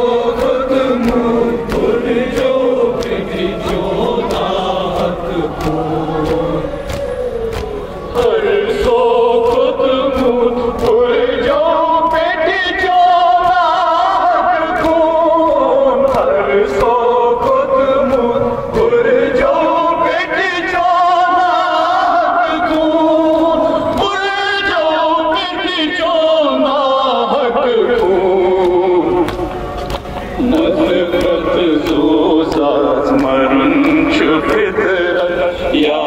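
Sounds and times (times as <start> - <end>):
men singing a lament: 0.0 - 36.0
rhythmic chest-beating: 0.0 - 36.0.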